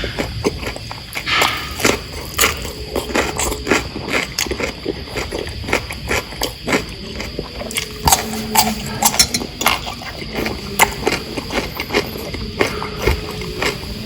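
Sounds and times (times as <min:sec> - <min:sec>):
chewing and mouth smacking: 0:00.0 - 0:14.0.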